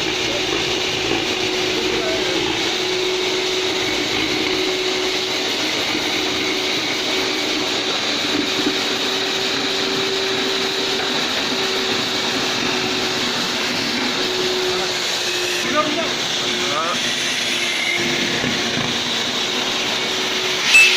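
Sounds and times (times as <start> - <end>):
vacuum cleaner running: 0.0 - 20.9.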